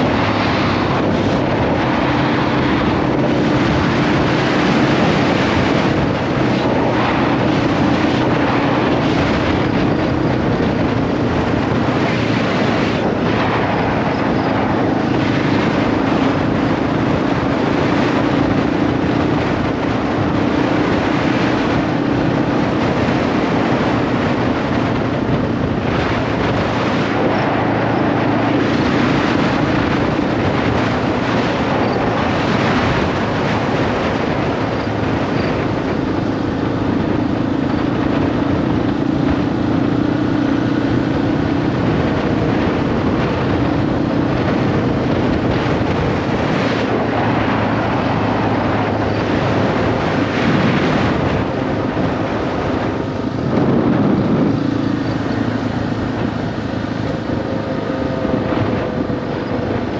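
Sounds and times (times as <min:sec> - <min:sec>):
motorcycle engine cruising: 0:00.0 - 0:59.9
wind on microphone: 0:00.0 - 0:59.9.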